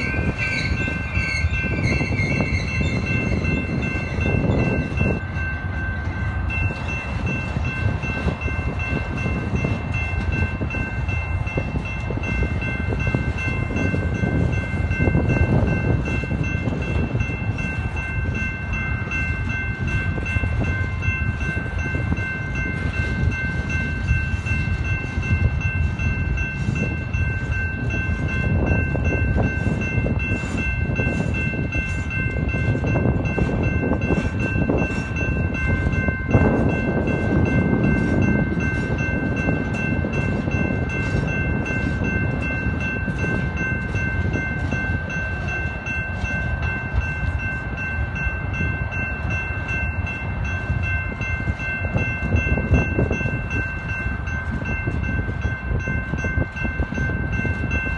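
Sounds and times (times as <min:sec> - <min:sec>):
crossing bell ringing: 0:00.0 - 0:57.9
freight train wheels rumbling: 0:00.0 - 0:57.9
wind buffeting microphone: 0:00.0 - 0:57.9.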